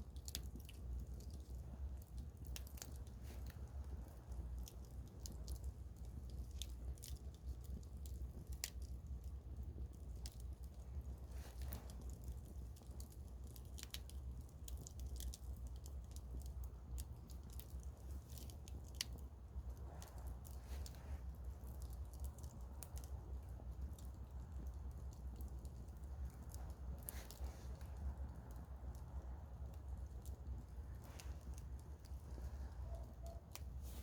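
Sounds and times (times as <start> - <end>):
campfire crackling and popping: 0.0 - 34.0
steady low rumble: 0.0 - 34.0.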